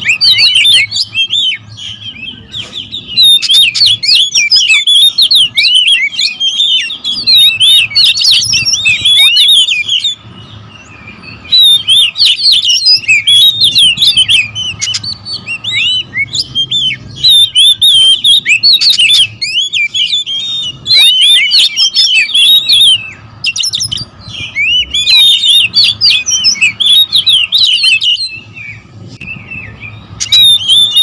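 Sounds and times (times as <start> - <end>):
birds whistling chirps: 0.0 - 31.0.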